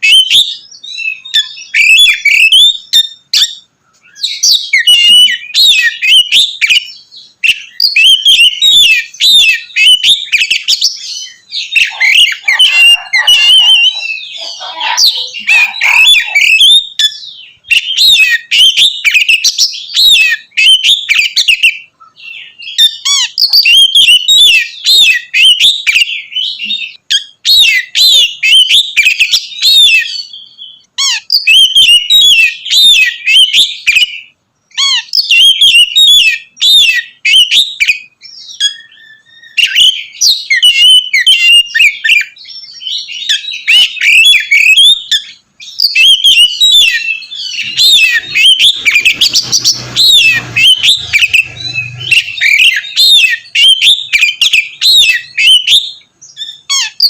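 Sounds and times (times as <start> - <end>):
bird singing whistles and chirps: 0.0 - 57.0.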